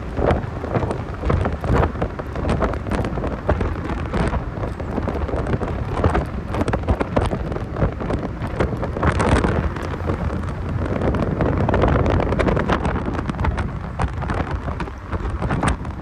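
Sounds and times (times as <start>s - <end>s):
car road and engine rumble: 0.0s - 16.0s
wind buffeting microphone: 0.0s - 16.0s.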